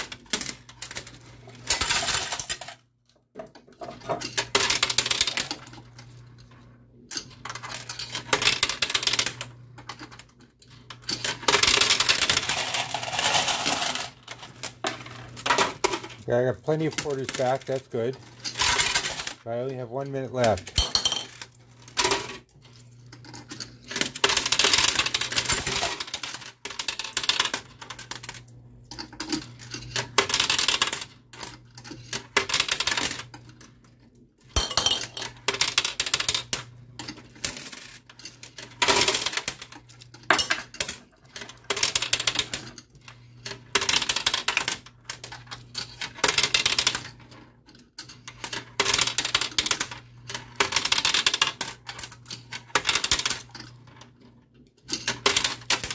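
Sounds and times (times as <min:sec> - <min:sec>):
coins clattering and clinking: 0:00.0 - 0:02.8, 0:03.4 - 0:19.4, 0:20.4 - 0:33.6, 0:34.4 - 0:54.1, 0:54.8 - 0:55.9.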